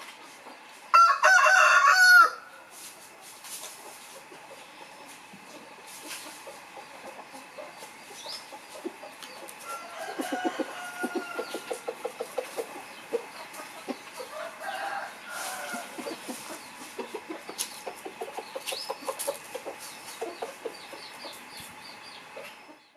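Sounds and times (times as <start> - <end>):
rooster clucking: 0.2 - 22.9.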